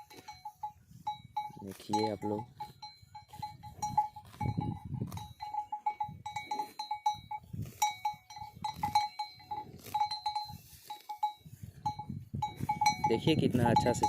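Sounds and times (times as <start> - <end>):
bell clanking: 0.0 - 14.0.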